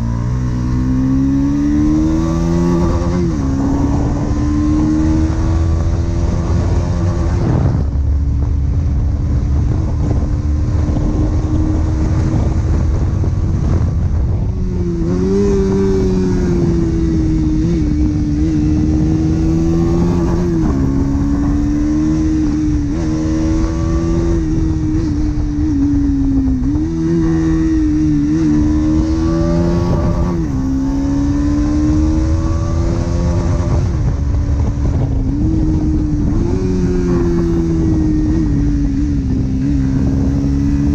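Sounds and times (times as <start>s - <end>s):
motorcycle engine running: 0.0s - 40.9s
wind rumble on microphone: 0.0s - 40.9s.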